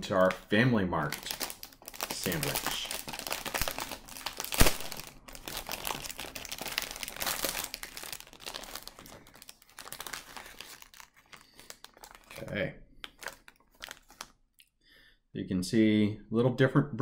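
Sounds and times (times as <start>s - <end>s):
plastic wrapping crinkling: 0.0s - 14.7s.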